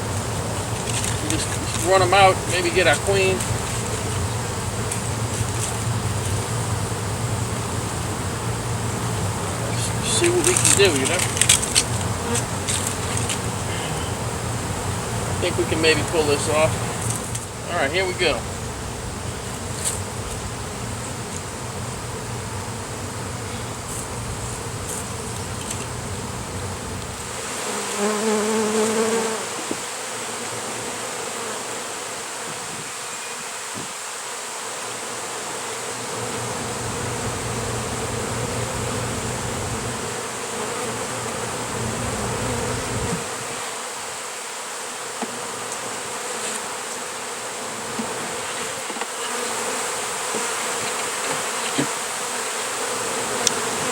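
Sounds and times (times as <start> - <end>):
bee buzzing close by: 0.0 - 53.9
bees buzzing: 0.0 - 53.9.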